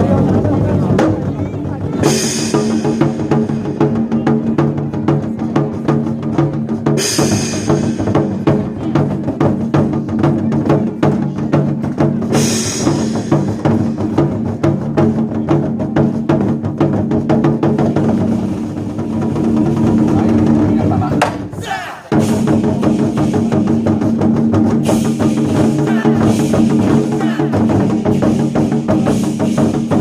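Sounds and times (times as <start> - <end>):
war drums beaten fast: 0.0 - 30.0.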